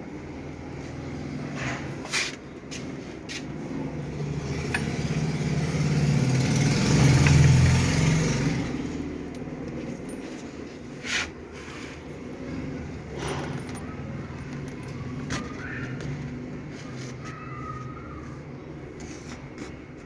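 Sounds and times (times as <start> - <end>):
vehicle engine hum passing by: 0.1 - 18.5.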